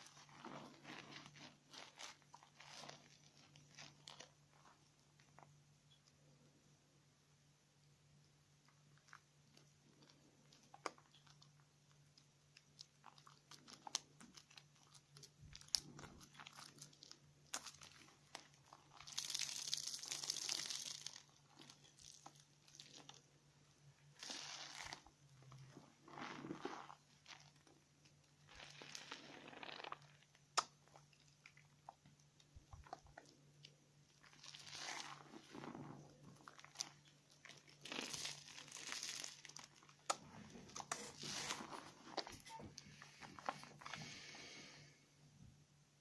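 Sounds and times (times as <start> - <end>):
soap lather crackling: 0.0 - 6.2, 8.7 - 44.4.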